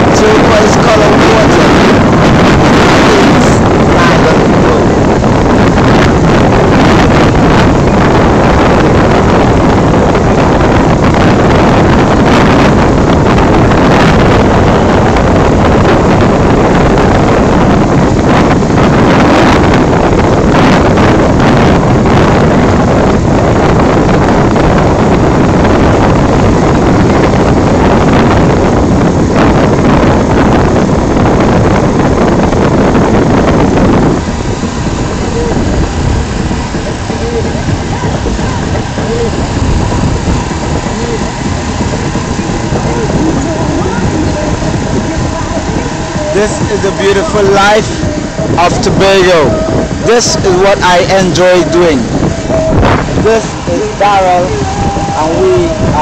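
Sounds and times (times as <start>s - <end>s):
boat engine: 0.0s - 56.0s
water rushing past boat: 0.0s - 56.0s
wind buffeting microphone: 0.0s - 56.0s.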